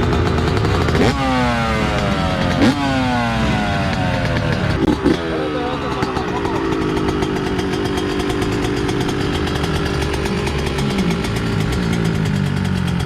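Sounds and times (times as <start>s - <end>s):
dirt bike engine running: 0.0s - 13.0s
second lower engine: 0.0s - 13.0s.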